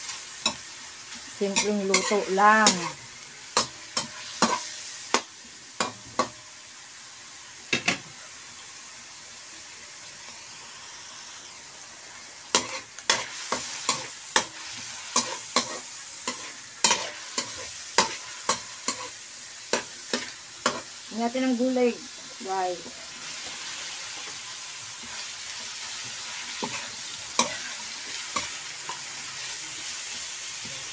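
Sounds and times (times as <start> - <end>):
food sizzling in a pan: 0.0 - 30.9.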